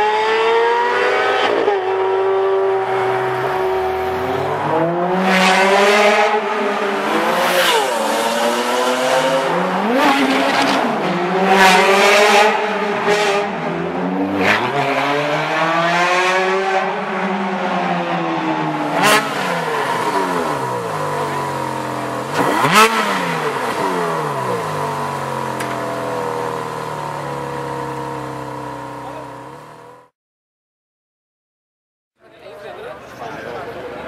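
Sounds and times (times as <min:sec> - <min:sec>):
sports car engine revving: 0:00.0 - 0:30.1.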